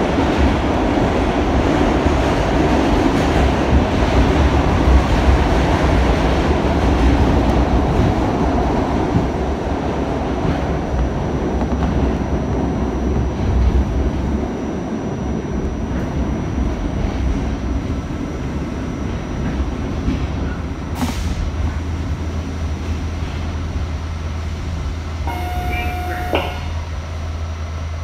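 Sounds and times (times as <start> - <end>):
subway train rumbling in tunnel: 0.0 - 28.0.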